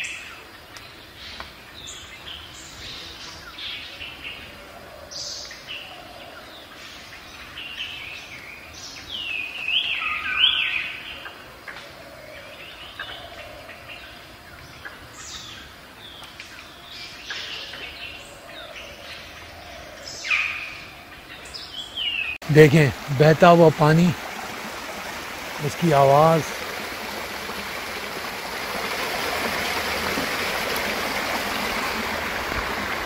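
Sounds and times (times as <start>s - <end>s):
faint outdoor background noise: 0.0s - 33.0s
songbirds singing: 0.0s - 33.0s.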